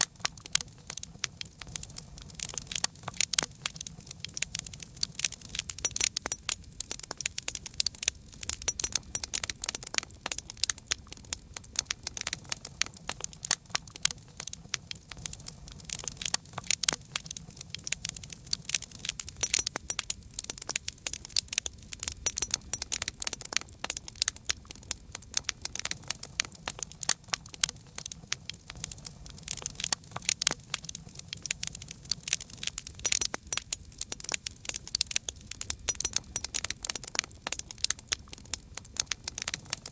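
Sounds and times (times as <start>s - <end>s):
campfire pops and snaps: 0.0s - 39.9s
low rumble of flames: 0.0s - 39.9s.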